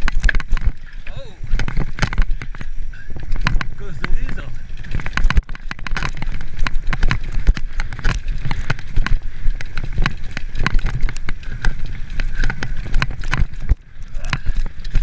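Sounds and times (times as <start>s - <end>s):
bike rattling over rocks: 0.0s - 15.0s
tyres rumbling on dirt: 0.0s - 15.0s.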